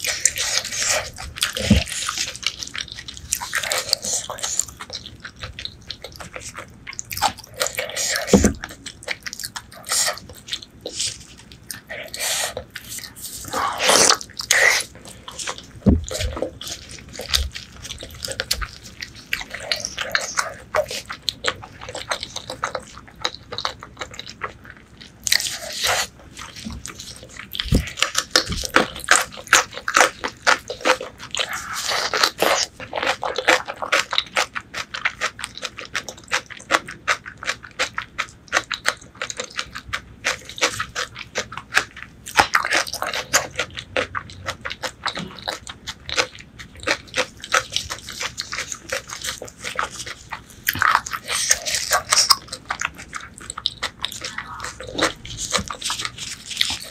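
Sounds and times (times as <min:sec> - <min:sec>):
close chewing and biting: 0:00.0 - 0:56.9.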